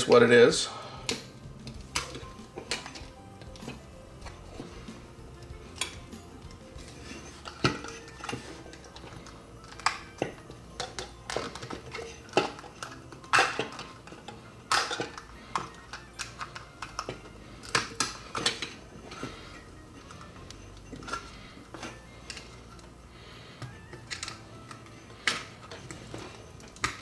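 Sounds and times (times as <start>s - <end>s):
hand tools prying plastic: 1.0s - 6.2s, 6.8s - 22.5s, 23.6s - 27.0s.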